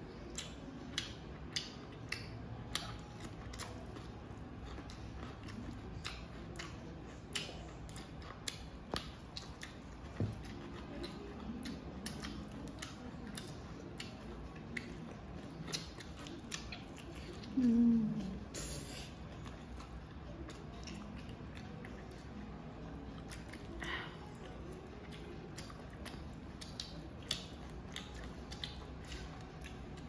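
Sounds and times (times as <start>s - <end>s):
people chewing and lip smacking: 0.0s - 30.0s.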